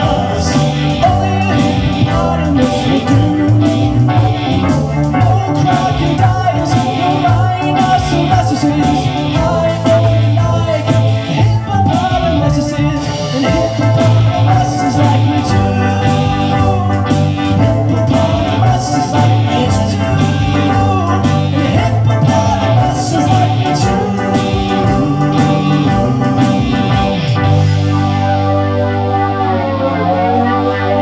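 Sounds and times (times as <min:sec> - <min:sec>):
steady beat: 0:00.0 - 0:28.3
bass guitar: 0:00.0 - 0:31.0
electric guitar: 0:00.0 - 0:31.0
keyboard: 0:00.0 - 0:31.0.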